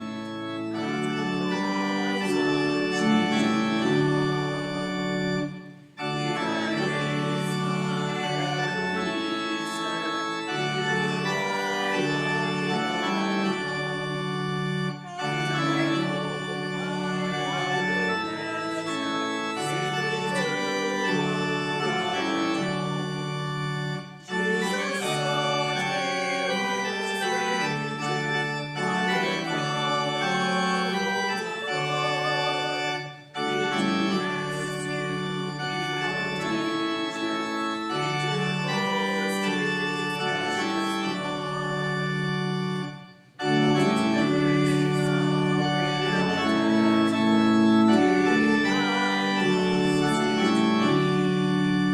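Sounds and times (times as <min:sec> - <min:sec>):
organ playing sustained chords: 0:00.0 - 0:51.9.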